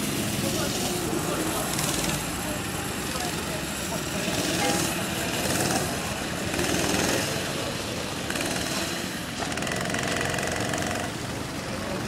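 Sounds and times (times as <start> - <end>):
go-kart engines running: 0.0 - 12.0.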